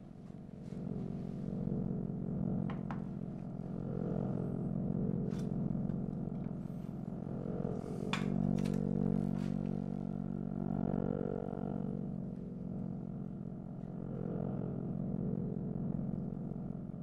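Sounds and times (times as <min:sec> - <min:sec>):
low synthesizer drone: 0:00.0 - 0:17.0.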